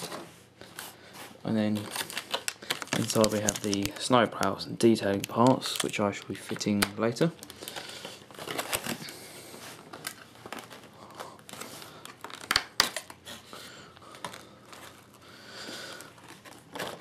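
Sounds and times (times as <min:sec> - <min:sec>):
plastic packaging crinkling: 0:01.5 - 0:17.0.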